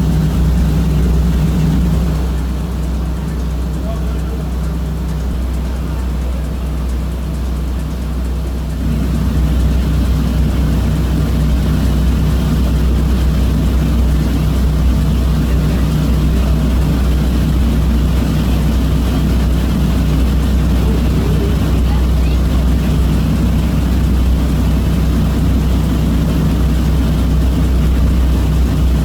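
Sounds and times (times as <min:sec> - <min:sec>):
ferry engines droning: 0:00.0 - 0:29.0.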